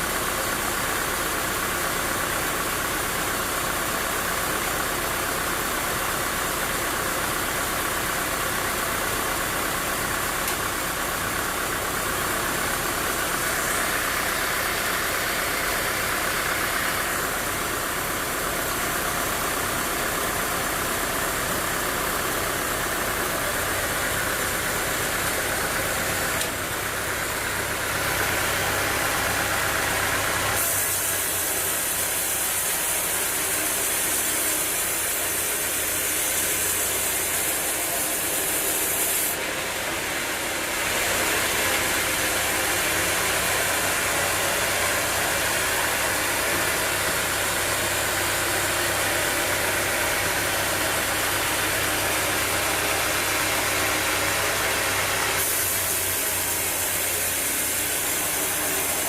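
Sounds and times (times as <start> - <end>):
sawmill machinery roaring: 0.0 - 59.0.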